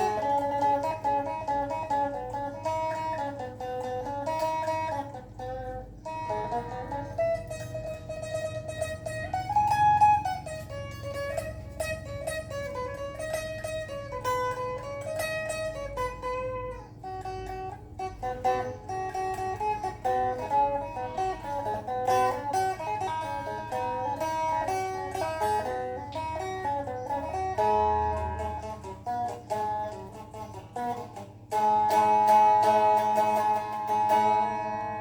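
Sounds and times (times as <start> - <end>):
plucked lute melody: 0.0 - 35.0.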